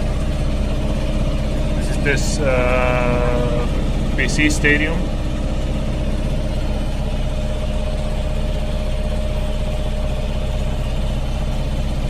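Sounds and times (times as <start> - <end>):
ferry engine humming: 0.0 - 12.0.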